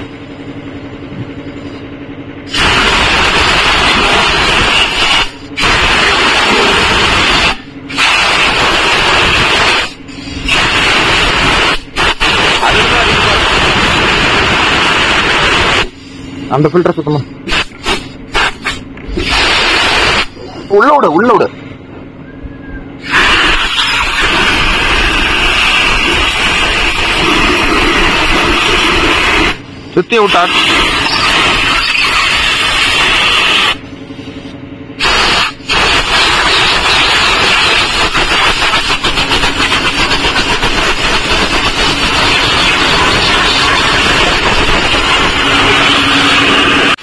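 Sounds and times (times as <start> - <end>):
high-pressure spray gun hissing: 2.5 - 16.3, 17.4 - 20.4, 23.0 - 33.8, 35.0 - 47.0.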